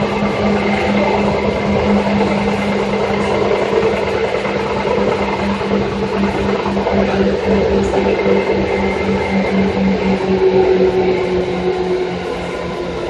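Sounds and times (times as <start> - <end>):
low pulsing drone: 0.0 - 13.0
train wheels rumbling on track: 0.0 - 13.0.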